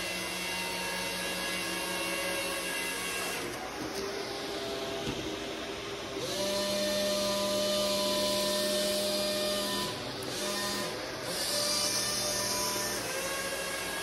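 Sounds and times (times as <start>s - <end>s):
toy hovercraft motors whirring: 0.0s - 5.5s, 6.1s - 14.0s.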